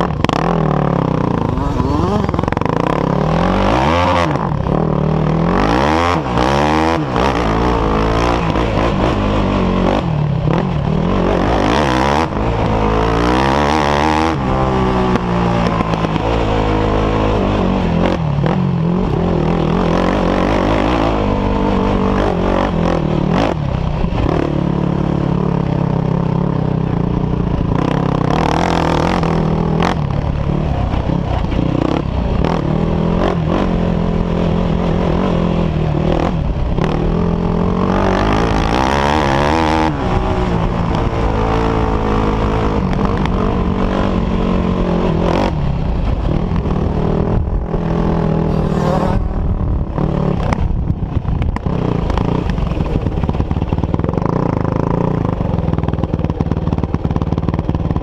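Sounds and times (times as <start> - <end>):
off-road engines revving: 0.0 - 58.0.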